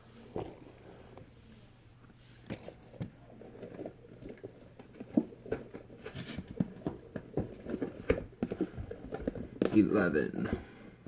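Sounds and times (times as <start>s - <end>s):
rustling: 0.0s - 10.8s.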